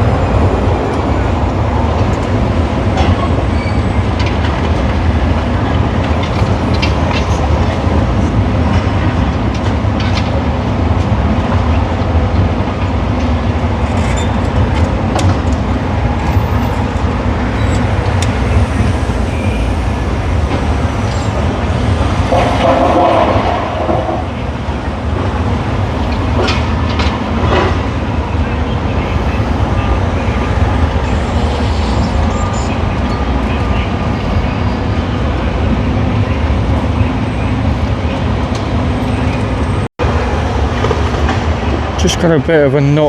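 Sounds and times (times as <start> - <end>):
demolition machinery rumbling: 0.0 - 43.0.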